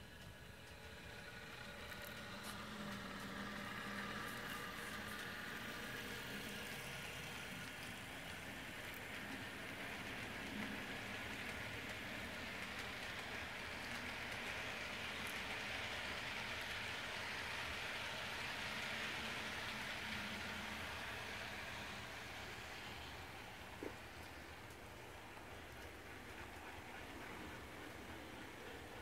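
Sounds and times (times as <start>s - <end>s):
model train wheels on rails: 0.0s - 29.0s.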